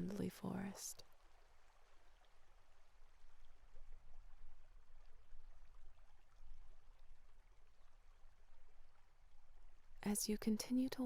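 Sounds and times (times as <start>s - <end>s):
water trickling over stones: 0.0s - 11.0s.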